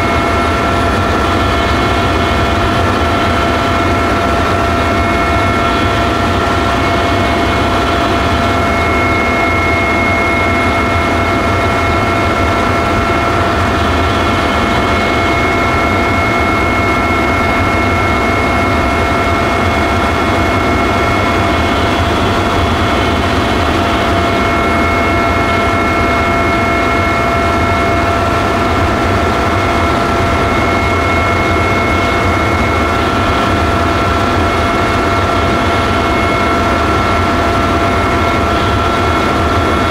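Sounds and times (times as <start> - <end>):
helicopter engine and rotor roar: 0.0 - 39.9
high whine: 0.0 - 39.9.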